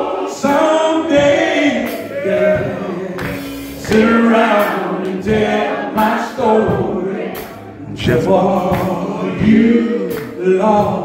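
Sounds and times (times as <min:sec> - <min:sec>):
man singing gospel song: 0:00.0 - 0:11.0.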